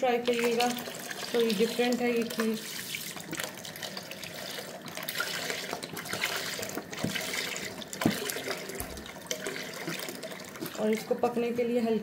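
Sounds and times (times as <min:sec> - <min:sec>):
milk pouring into a pot: 0:00.0 - 0:11.2.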